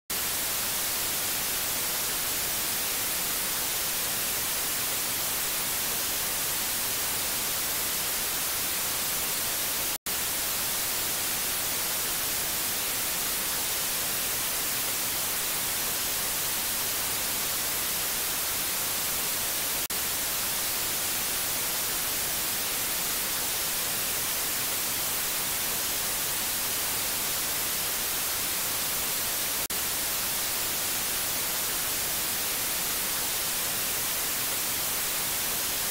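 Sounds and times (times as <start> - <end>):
white noise hiss: 0.1 - 35.9.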